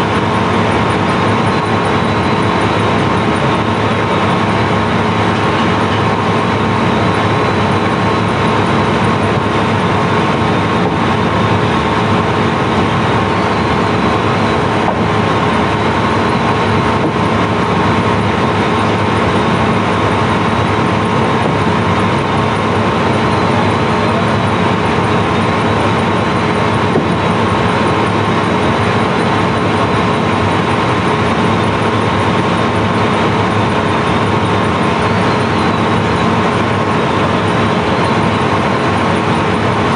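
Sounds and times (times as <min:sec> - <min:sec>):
machinery droning: 0:00.0 - 0:39.9.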